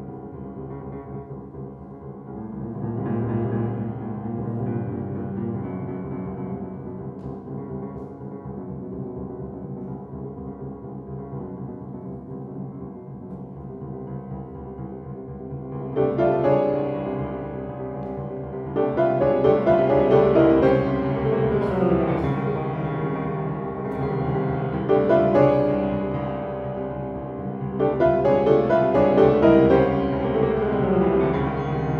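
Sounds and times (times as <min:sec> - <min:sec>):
grand piano playing: 0:00.0 - 0:31.9.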